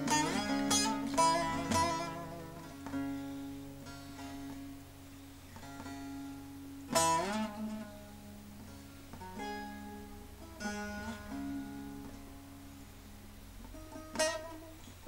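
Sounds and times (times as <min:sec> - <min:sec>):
long-necked lute plucked notes: 0:00.0 - 0:15.0.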